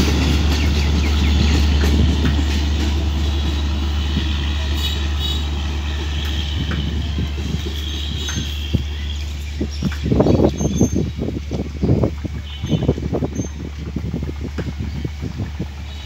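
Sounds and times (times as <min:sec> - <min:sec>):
passenger train rumble: 0:00.0 - 0:16.0.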